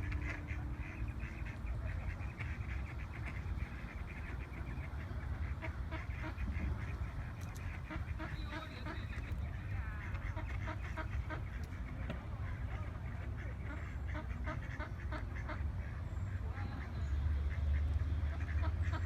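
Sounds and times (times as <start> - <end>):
steady low rumble: 0.0 - 19.0
waterfowl flock calling: 0.0 - 19.0.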